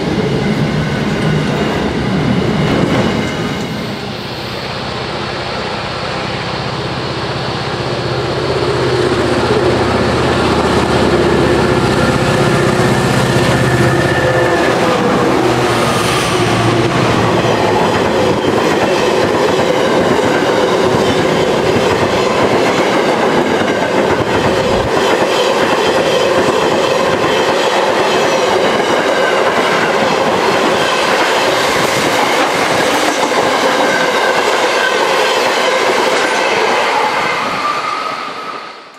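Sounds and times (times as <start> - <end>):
diesel locomotives passing: 0.0 - 38.9
train wheels rumbling on rails: 0.0 - 38.9.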